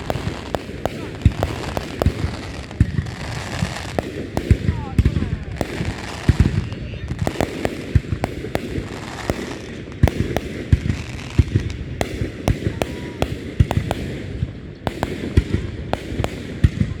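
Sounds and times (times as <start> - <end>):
distant fireworks rumble: 0.0 - 17.0
fireworks bangs and cracks: 0.0 - 17.0.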